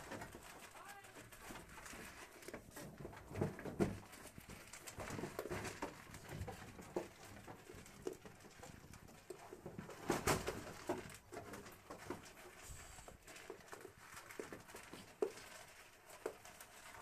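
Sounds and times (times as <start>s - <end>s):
goats crunching corn kernels: 0.0s - 17.0s.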